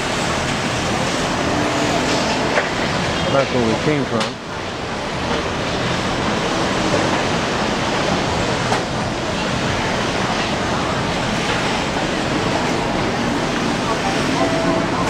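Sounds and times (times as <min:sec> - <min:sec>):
road traffic roar: 0:00.0 - 0:15.0.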